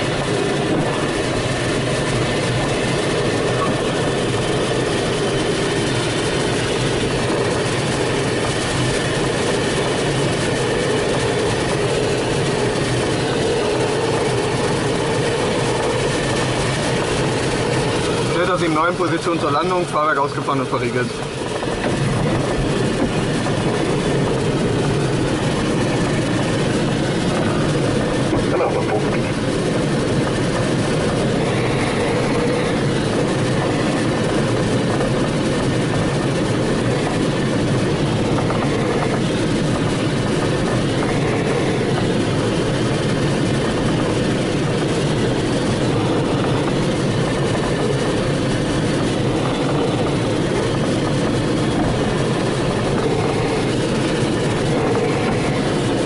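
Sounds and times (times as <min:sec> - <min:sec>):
airflow rushing around glider: 0:00.0 - 0:56.0.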